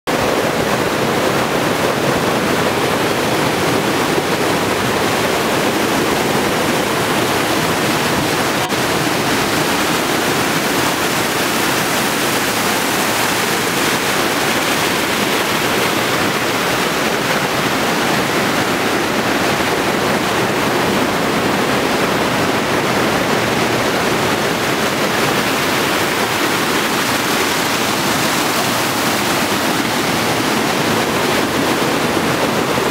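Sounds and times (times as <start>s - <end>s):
river rushing over rapids: 0.1s - 32.9s.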